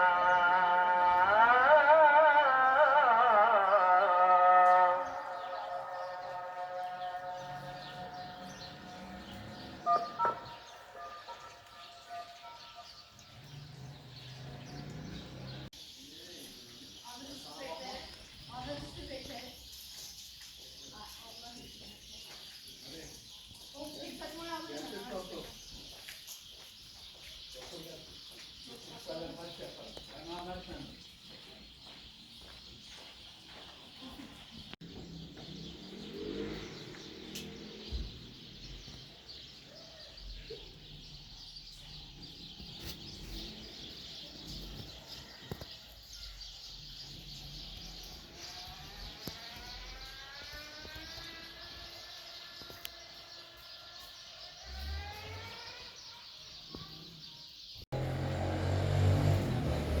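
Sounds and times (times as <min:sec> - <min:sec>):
small birds chirping: 0:03.2 - 1:00.0.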